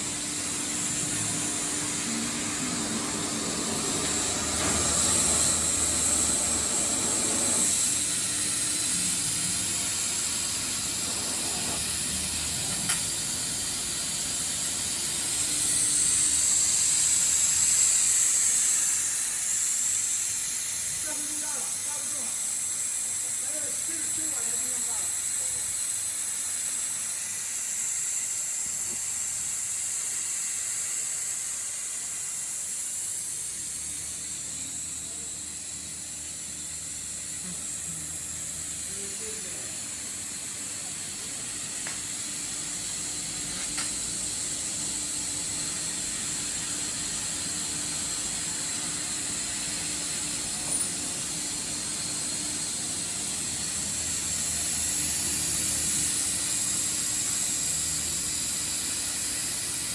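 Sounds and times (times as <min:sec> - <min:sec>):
laser cutter air hiss: 0:00.0 - 0:59.9.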